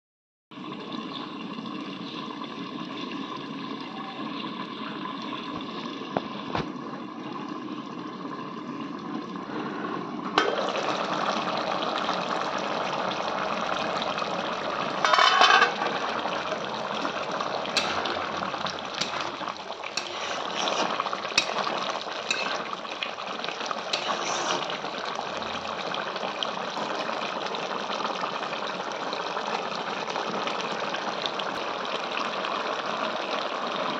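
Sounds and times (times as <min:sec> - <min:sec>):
curry bubbling in a pan: 0:00.6 - 0:33.9.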